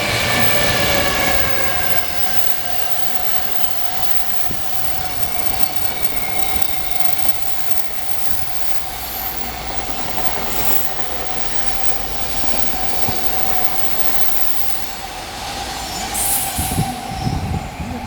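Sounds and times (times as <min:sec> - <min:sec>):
rail-joint clicks: 0:00.0 - 0:17.0
wheel squeal: 0:00.0 - 0:17.6
freight train rumbling past: 0:00.0 - 0:18.0.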